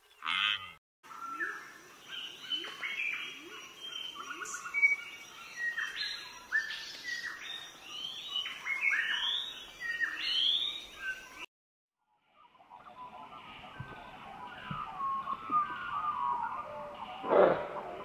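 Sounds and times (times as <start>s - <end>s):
birds chirping and twittering: 0.0s - 11.5s, 12.2s - 18.0s.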